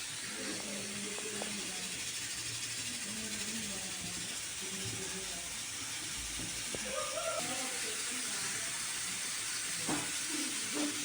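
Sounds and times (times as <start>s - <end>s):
food frying in a pan: 0.0s - 11.0s.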